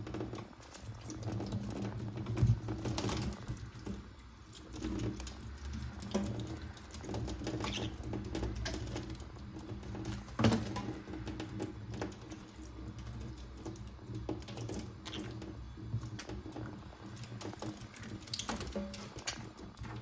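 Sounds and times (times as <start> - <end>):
birds splashing in water: 0.0 - 20.0.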